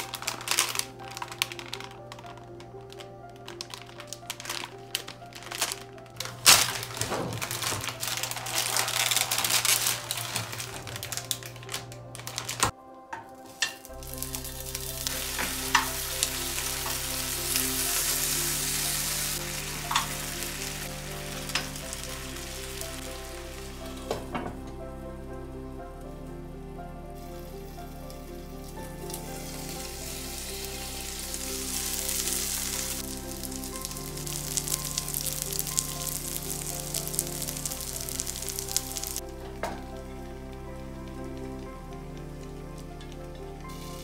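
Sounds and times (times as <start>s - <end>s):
dumplings sizzling in a pan: 0.0s - 12.7s, 13.4s - 24.6s, 27.2s - 44.0s
plastic packet crinkling: 0.0s - 12.8s, 13.4s - 24.0s, 27.4s - 42.4s
background music with held notes: 0.0s - 44.0s.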